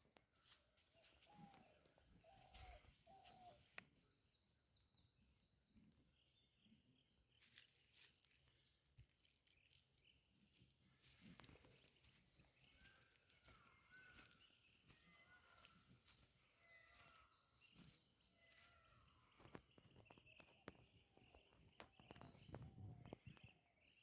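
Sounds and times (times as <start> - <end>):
faint bird chirps: 0.1 - 24.0.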